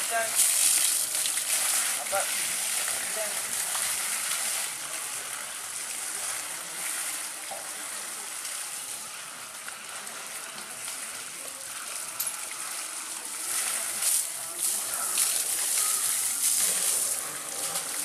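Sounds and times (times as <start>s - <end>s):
hose water splashing: 0.0s - 18.0s.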